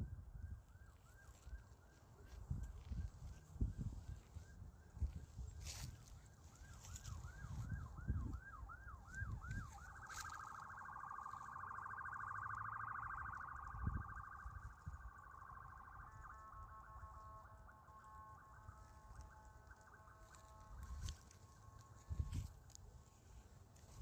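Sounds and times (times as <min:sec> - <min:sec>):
faint car alarm: 0:00.0 - 0:24.0.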